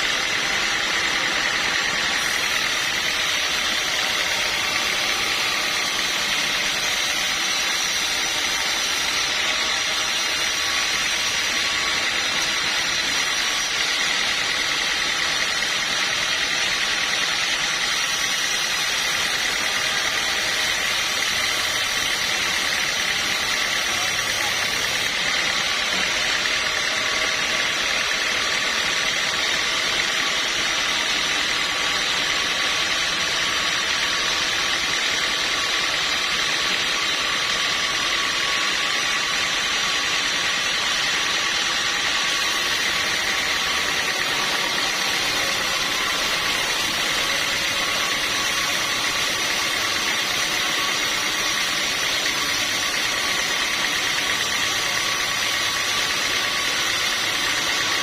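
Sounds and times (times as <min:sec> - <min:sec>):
high steady whining tones: 0:00.0 - 0:58.0
sawmill machinery hissing: 0:00.0 - 0:58.0.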